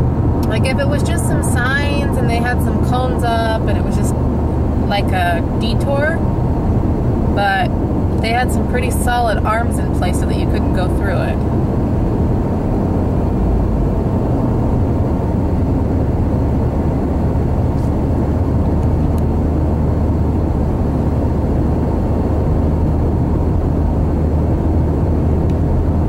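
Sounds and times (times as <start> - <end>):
car interior road drone: 0.0 - 26.0.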